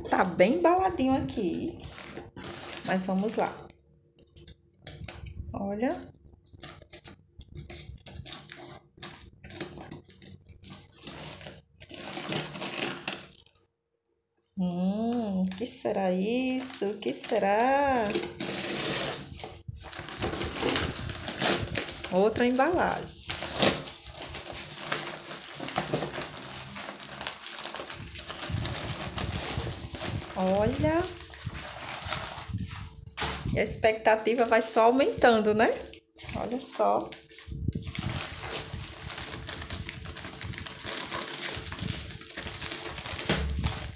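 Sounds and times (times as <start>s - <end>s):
paper and tape crackling: 0.0s - 13.7s, 15.0s - 43.9s.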